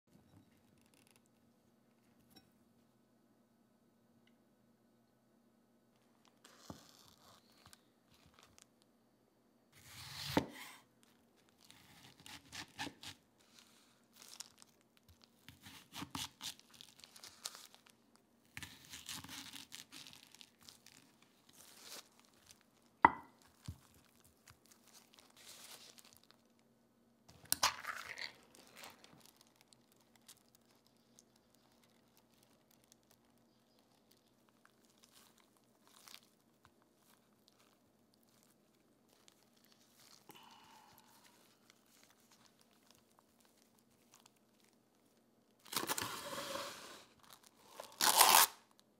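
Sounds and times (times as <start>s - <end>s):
onion skin peeling crinkle: 6.2s - 8.9s, 9.8s - 26.7s, 27.3s - 48.9s.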